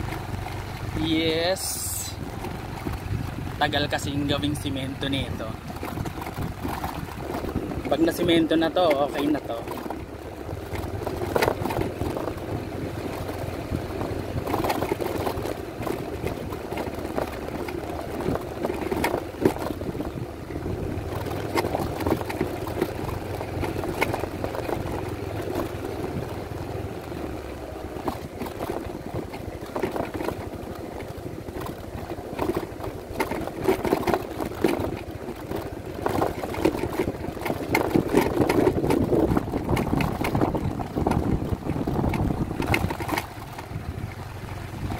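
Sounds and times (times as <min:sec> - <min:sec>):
knocks and rattles from bumps: 0:00.0 - 0:44.9
scooter engine running under load: 0:00.0 - 0:44.9.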